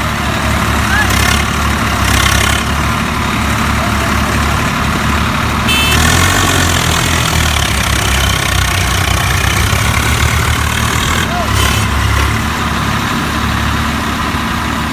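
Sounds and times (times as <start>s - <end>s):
tractor engine idling: 0.0s - 14.9s.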